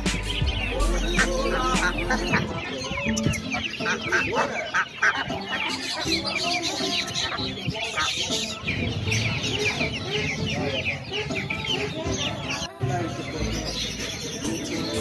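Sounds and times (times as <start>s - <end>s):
cage birds chirping: 0.0s - 15.0s
chickens clucking: 0.0s - 15.0s.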